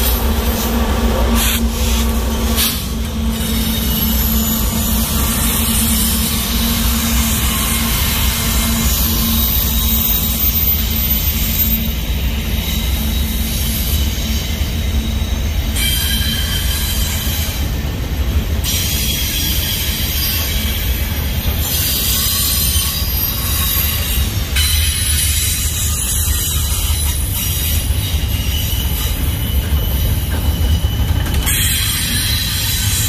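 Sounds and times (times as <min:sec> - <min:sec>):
freight train rumbling past: 0:00.0 - 0:33.0
wheel squeal: 0:01.4 - 0:17.8, 0:18.6 - 0:33.0.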